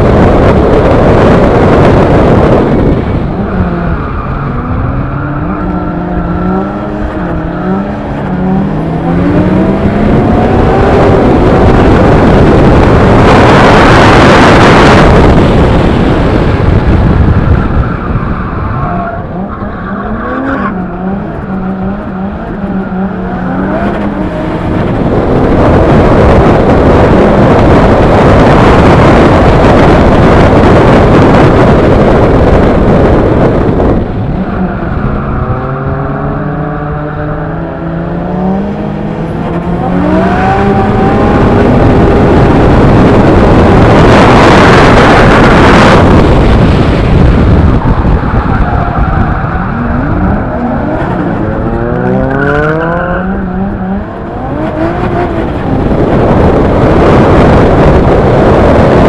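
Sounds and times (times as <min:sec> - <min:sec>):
car engine revving: 0:00.0 - 0:59.0
wind and tyre rushing noise: 0:00.0 - 0:59.0.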